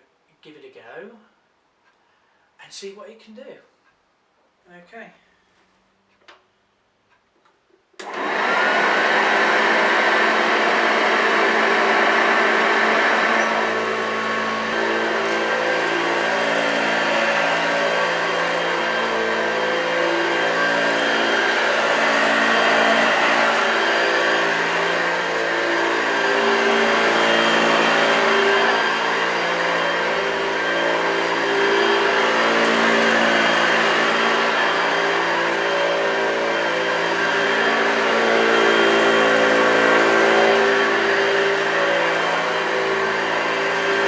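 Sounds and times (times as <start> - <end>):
vacuum cleaner running: 8.0 - 44.0.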